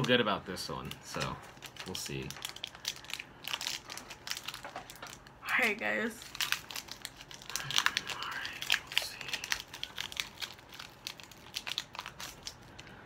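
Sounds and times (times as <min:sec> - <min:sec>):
foil wrapper tearing and crinkling: 0:00.0 - 0:12.9.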